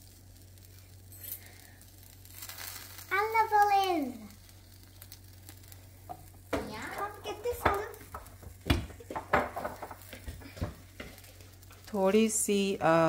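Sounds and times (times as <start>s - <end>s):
pan sizzling: 0.0s - 13.0s.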